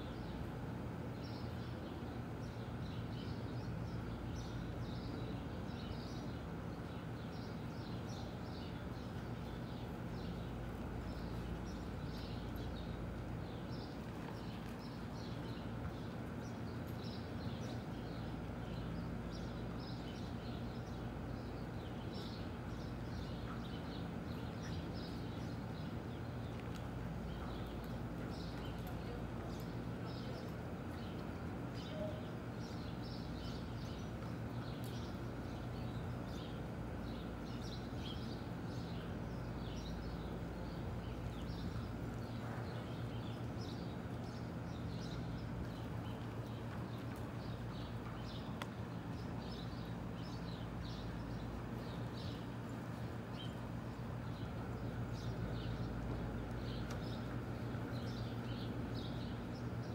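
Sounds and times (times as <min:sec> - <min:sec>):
steady low hum: 0:00.0 - 0:59.9
horse hooves on sand: 0:07.4 - 0:36.3, 0:39.3 - 0:58.8.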